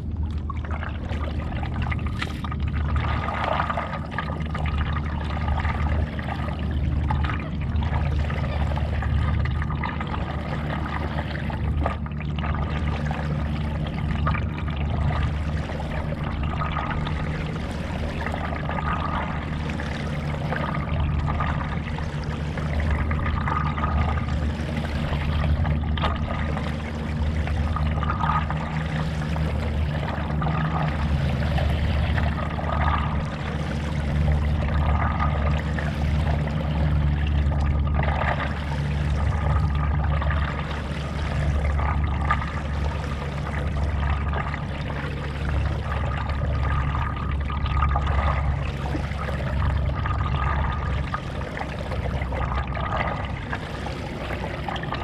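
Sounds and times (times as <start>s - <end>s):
paddle swishing through water: 0.0s - 55.0s
steady low rumble: 0.0s - 55.0s.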